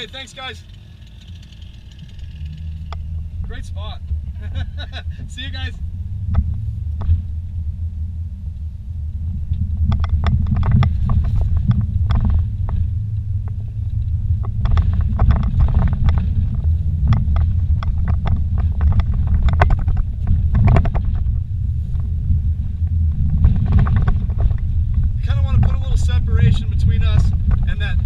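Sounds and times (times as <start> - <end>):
knocks and rattles in vehicle: 0.0 - 7.6, 8.6 - 28.0
engine and tyre rumble: 0.0 - 28.0.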